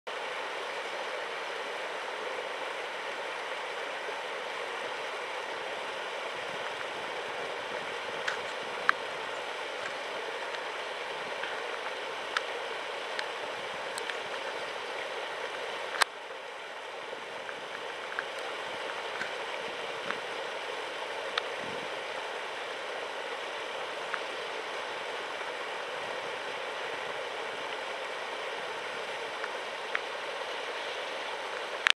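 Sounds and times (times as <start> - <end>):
water gushing into a pond: 0.1 - 31.9.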